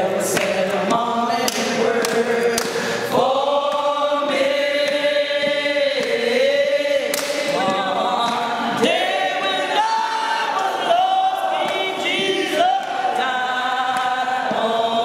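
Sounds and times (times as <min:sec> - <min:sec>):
group singing a gospel hymn: 0:00.0 - 0:15.0.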